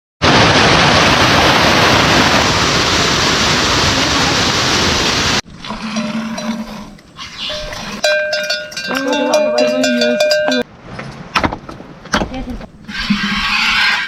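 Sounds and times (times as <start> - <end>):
water rushing: 0.2 - 12.1.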